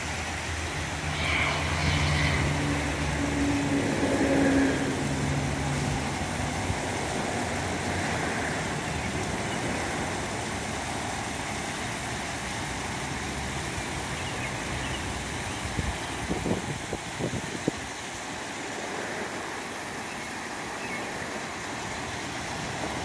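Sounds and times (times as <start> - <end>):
waterfall splashing into pond: 0.0 - 23.0.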